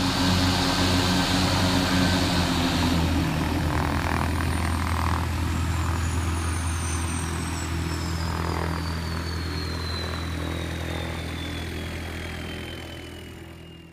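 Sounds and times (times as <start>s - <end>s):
turbine whine falling in pitch: 0.0s - 13.9s
turboprop engines droning: 0.0s - 13.9s.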